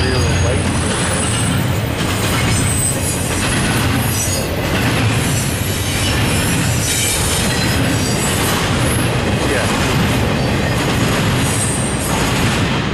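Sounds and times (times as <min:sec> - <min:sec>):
freight train wheels rumbling: 0:00.0 - 0:12.9.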